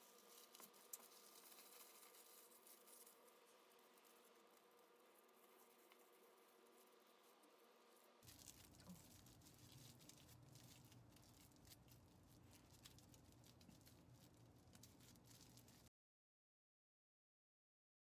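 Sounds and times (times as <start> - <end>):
plastic wrap crinkling: 0.0 - 6.9, 8.2 - 15.9.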